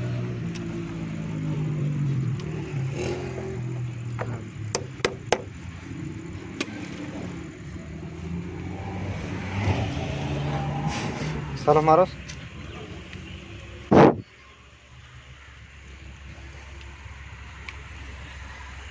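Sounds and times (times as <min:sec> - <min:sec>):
car engine idling: 0:00.0 - 0:09.4, 0:10.9 - 0:18.9.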